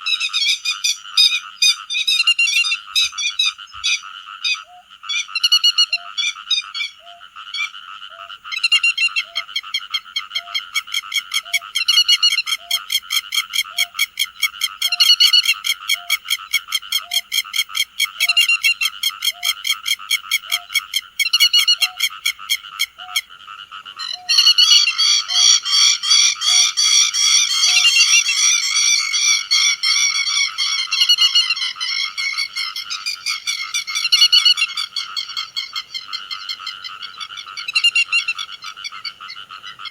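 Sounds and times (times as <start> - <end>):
lapwing flock calling: 0.0 - 39.9.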